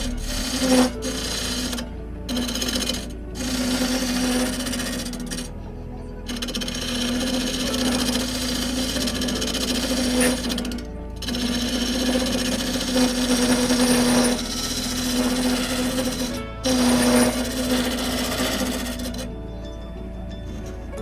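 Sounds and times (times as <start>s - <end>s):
tool rattling chatter on wood: 0.0s - 5.5s, 6.3s - 19.3s
wood lathe hum: 0.0s - 21.0s.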